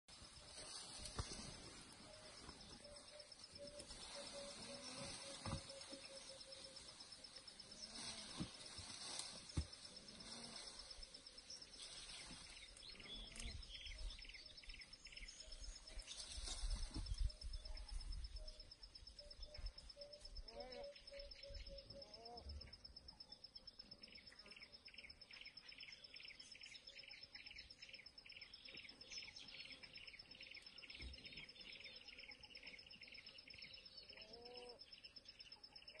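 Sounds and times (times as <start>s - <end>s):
bird chirping: 0.1s - 36.0s.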